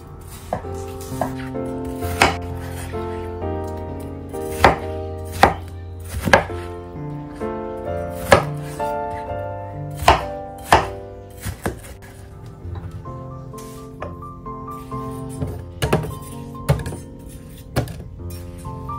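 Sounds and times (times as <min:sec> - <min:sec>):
soft background music: 0:00.0 - 0:18.9.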